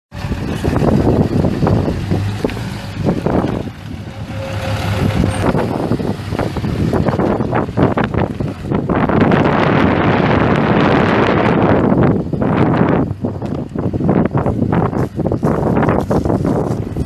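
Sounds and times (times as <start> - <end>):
diesel engine idling: 0.1 - 17.0.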